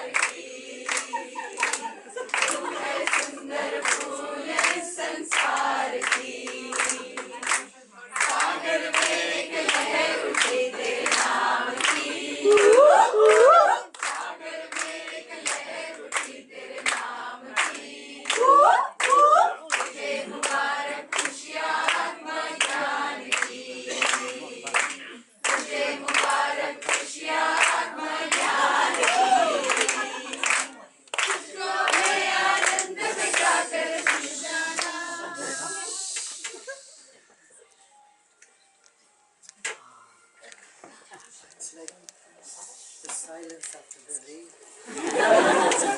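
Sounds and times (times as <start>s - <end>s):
group of voices singing: 0.0s - 36.9s
rhythmic hand-clapping: 0.0s - 37.2s, 45.0s - 45.9s.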